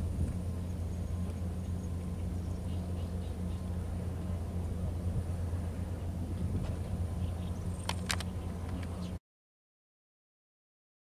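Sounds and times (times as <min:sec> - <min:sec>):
low mechanical hum: 0:00.0 - 0:09.2.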